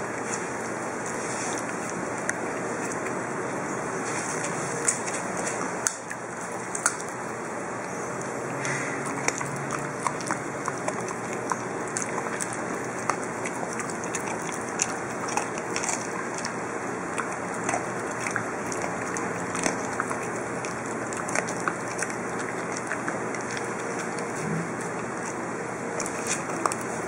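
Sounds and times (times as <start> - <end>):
puppy crunching carrot: 0.0 - 27.0.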